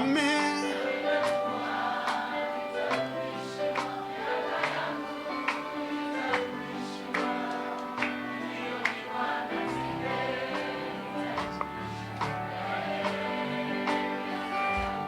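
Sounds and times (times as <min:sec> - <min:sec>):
choir singing gospel music: 0:00.0 - 0:15.0.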